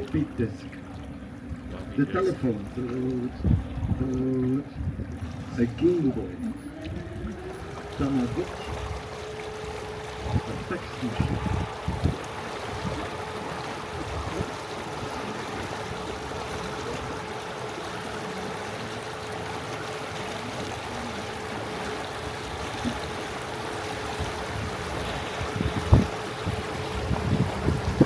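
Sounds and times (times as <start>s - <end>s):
boat motor hum: 0.0s - 28.0s
water rushing along hull: 0.0s - 28.0s.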